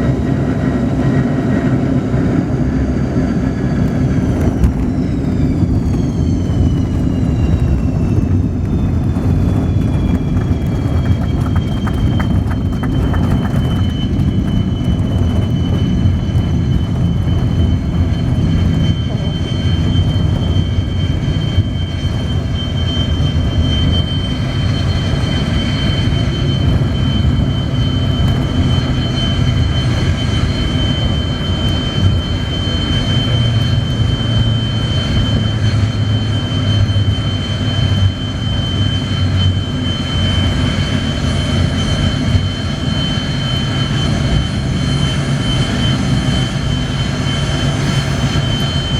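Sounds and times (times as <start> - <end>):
jet engines rumbling and whining: 0.0 - 48.9.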